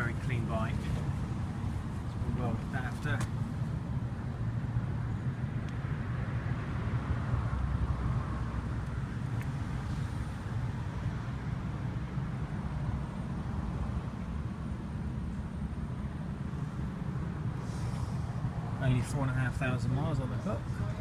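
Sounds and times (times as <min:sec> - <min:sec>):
low motor vehicle rumble: 0:00.0 - 0:21.0.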